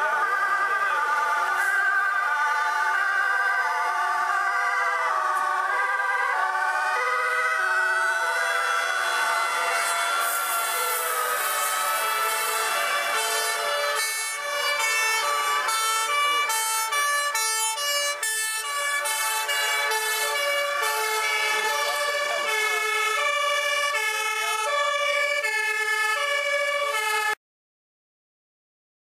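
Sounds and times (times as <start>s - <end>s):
fire engine two-tone sirens: 0.0s - 27.4s.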